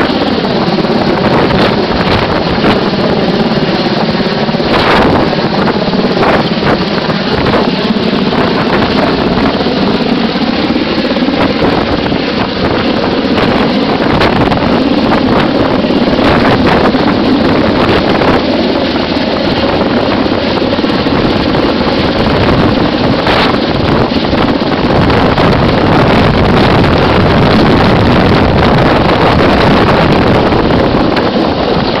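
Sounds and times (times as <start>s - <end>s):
helicopter hovering roar: 0.0s - 32.0s
wind buffeting microphone: 0.0s - 32.0s.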